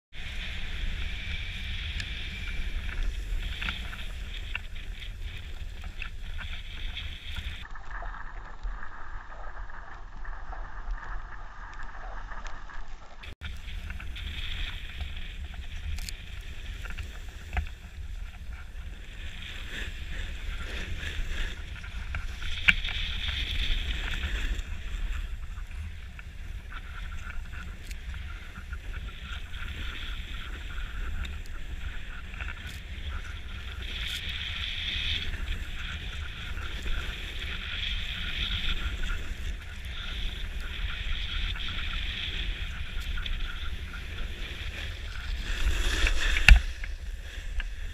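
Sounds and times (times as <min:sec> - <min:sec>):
wind rumble on microphone: 0:00.1 - 0:47.9
skis carving over snow: 0:00.2 - 0:47.9.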